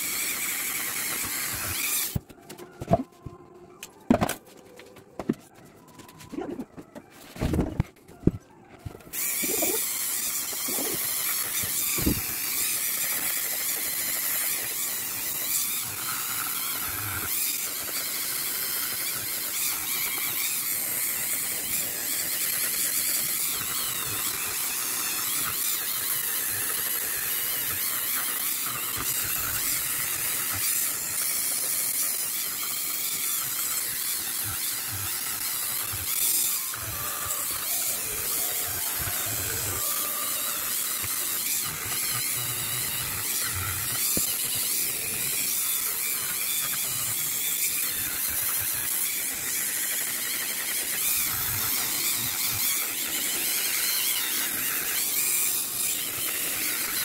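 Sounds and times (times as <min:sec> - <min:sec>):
rotary tool whining: 0:00.0 - 0:57.0.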